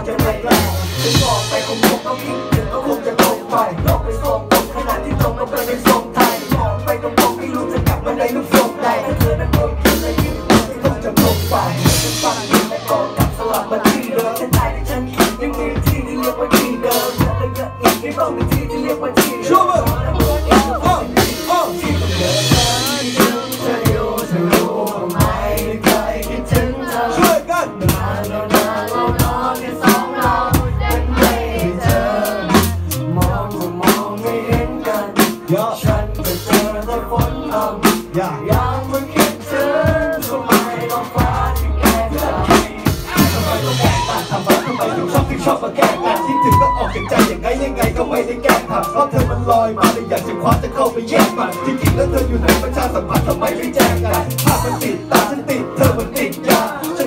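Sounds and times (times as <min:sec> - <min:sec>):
drums steady beat: 0:00.0 - 0:57.0
heavy bass notes: 0:00.0 - 0:57.0
live hip hop band: 0:00.0 - 0:57.0
people rapping and singing: 0:00.0 - 0:57.0.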